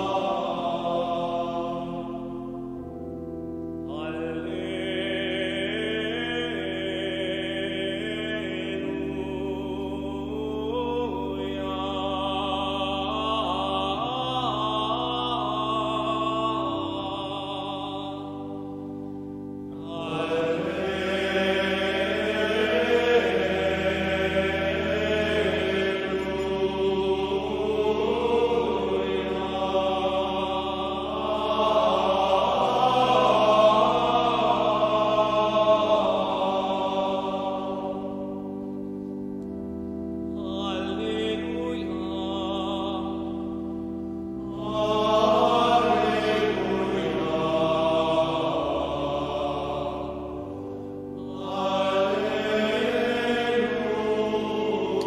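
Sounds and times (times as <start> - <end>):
voices singing a chant: 0.0 - 2.8, 3.8 - 39.6, 40.3 - 55.0
sustained low chords: 0.0 - 55.0.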